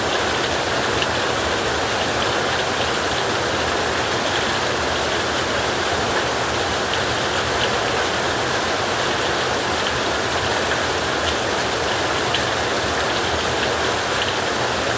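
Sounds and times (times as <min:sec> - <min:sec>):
heavy rain on a tin roof: 0:00.0 - 0:14.9.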